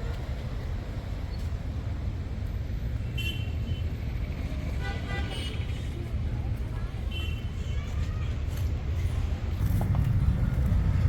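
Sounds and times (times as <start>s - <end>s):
low rumble of vehicle engines: 0.0s - 11.0s.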